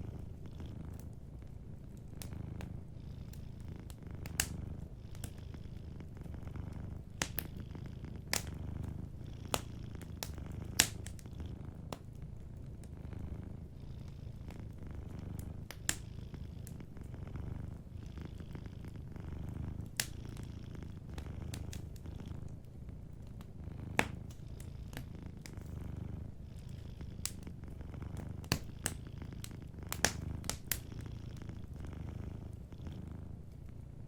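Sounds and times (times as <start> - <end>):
wood fire popping: 0.0 - 5.4, 6.0 - 13.4, 14.5 - 16.0, 16.6 - 31.8
cat purring: 0.0 - 34.0.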